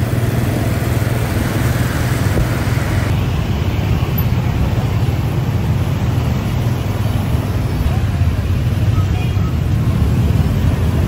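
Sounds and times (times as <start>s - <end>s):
motor scooter traffic rumble: 0.0s - 11.0s.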